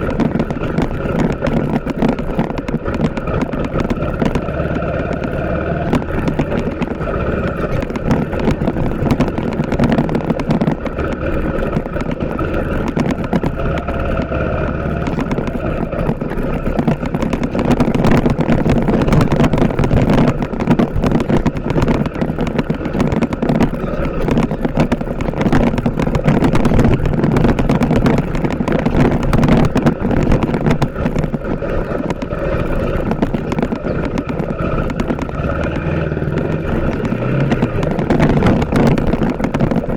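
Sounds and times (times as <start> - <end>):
clatter of short knocks: 0.0 - 39.9
motorcycle engine running: 0.0 - 39.9.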